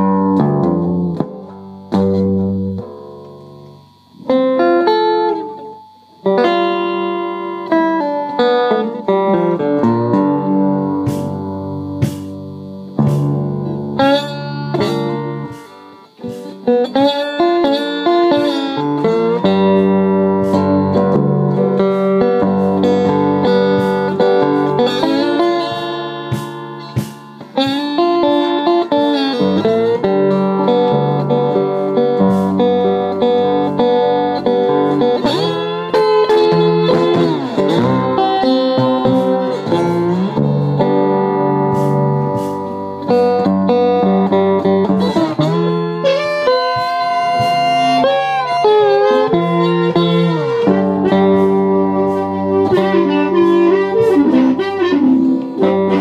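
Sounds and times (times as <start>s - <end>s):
harmonica chords: 0.0s - 56.0s
slide resonator guitar: 0.0s - 56.0s.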